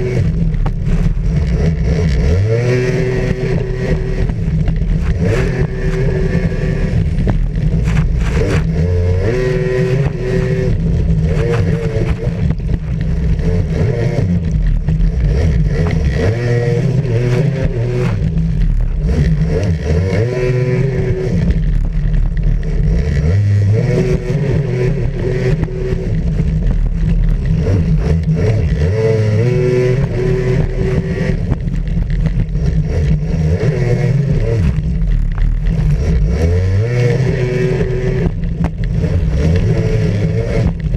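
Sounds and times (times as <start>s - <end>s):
jet ski engine revving: 0.0s - 40.9s
wind rushing over microphone: 0.0s - 40.9s.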